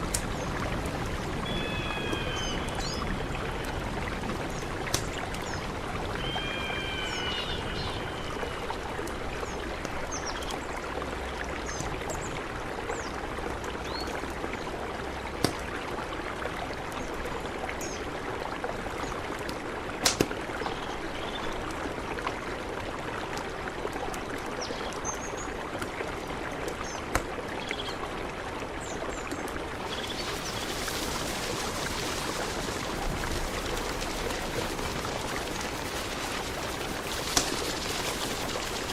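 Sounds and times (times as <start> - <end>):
mountain river flowing: 0.0 - 38.9.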